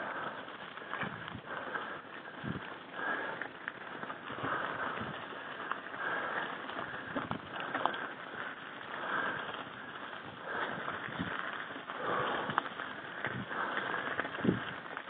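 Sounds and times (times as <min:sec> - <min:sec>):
tyres crunching over loose stones: 0:00.0 - 0:15.0.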